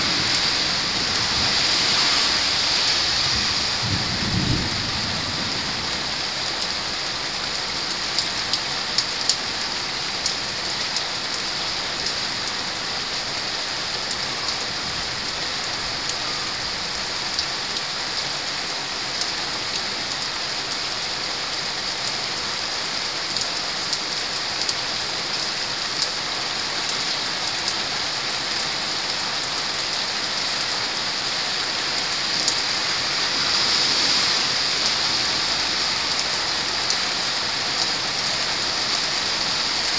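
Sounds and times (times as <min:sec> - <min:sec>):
rain drops ticking: 0:00.0 - 0:39.9
rain on roofs: 0:00.0 - 0:39.9.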